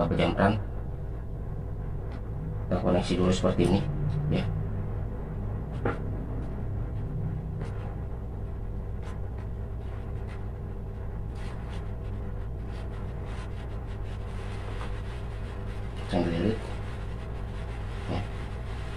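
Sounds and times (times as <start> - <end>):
low background hum: 0.0 - 18.9.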